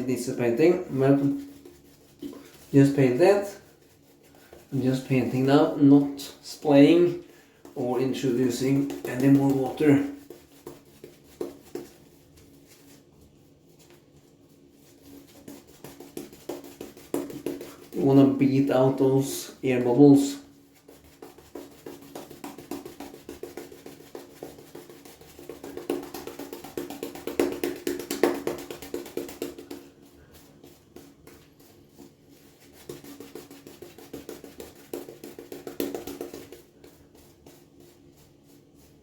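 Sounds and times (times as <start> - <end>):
brush beating in lather bowl: 0.0 - 39.0.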